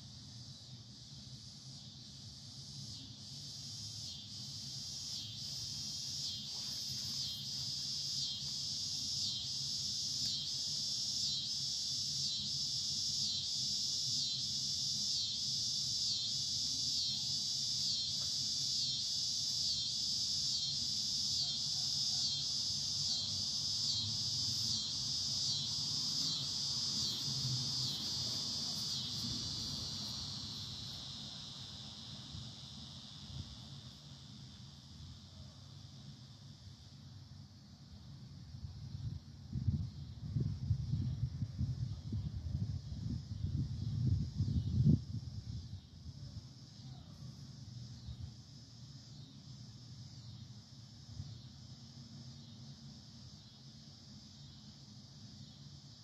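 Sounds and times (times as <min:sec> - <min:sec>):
insect buzzing call: 0:00.0 - 0:38.0, 0:38.9 - 0:56.0.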